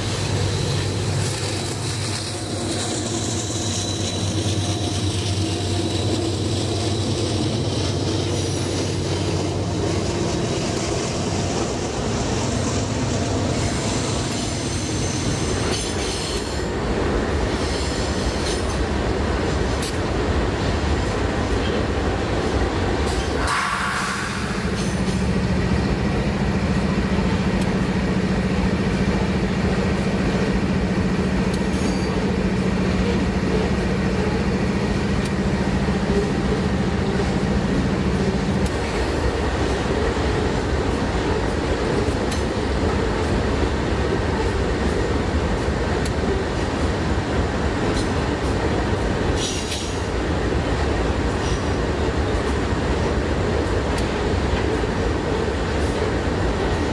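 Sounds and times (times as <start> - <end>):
freight train wagons rumbling: 0.0 - 56.9.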